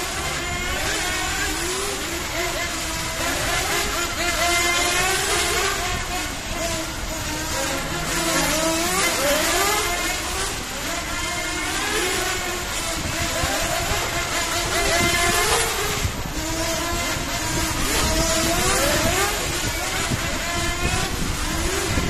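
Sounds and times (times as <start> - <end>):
rc car motors whining: 0.0 - 22.0.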